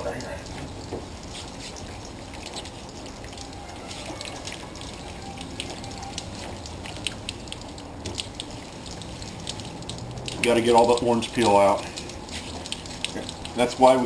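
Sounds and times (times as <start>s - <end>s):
water trickling and dripping: 0.0s - 14.0s.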